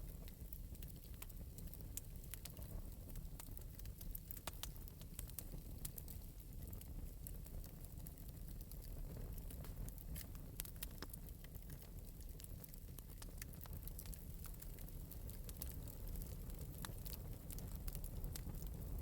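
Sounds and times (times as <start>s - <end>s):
fire crackling in metal fireplace: 0.0s - 19.0s.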